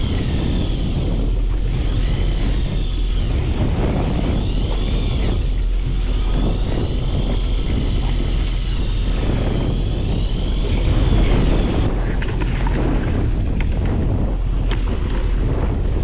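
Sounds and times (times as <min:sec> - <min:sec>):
electric reel motor whine: 0:00.0 - 0:16.0
low rumble of wind and boat: 0:00.0 - 0:16.0.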